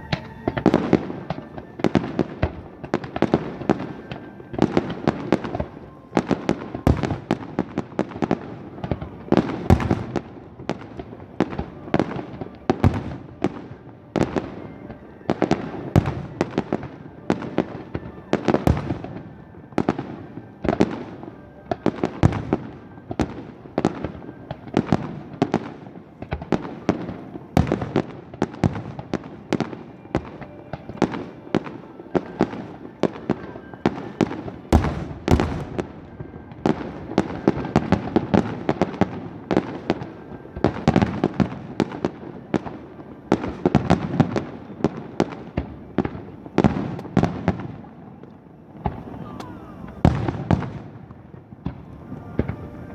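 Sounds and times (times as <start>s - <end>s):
music playing: 0.0s - 48.1s, 48.7s - 52.9s
fireworks bursting: 0.0s - 52.9s.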